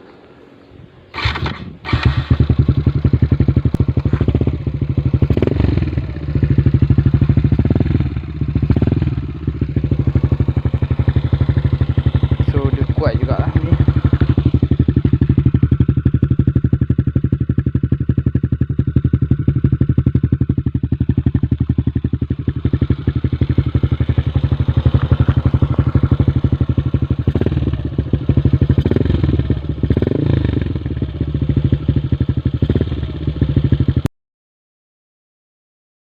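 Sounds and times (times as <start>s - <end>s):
motorcycle engine idling: 1.1s - 34.1s.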